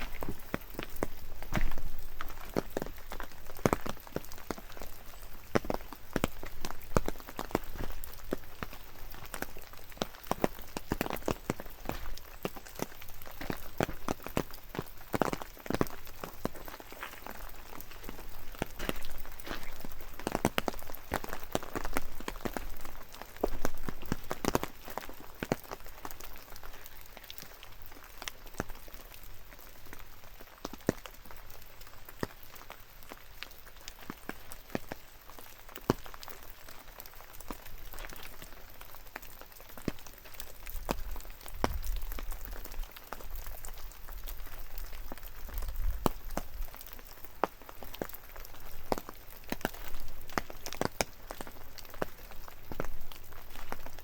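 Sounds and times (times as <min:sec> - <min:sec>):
drops ticking on wet surfaces: 0:00.0 - 0:54.0
light rain pattering: 0:00.0 - 0:54.0.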